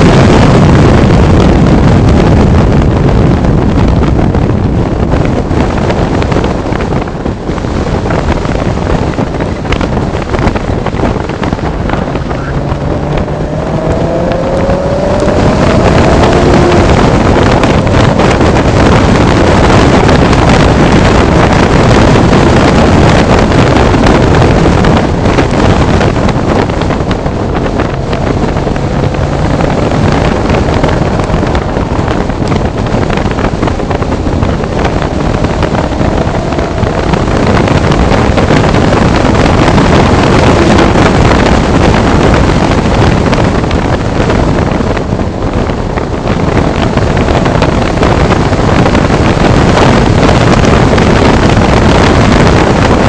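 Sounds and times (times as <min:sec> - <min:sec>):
car engine: 0:00.0 - 0:53.0
wind noise on microphone: 0:00.0 - 0:53.0.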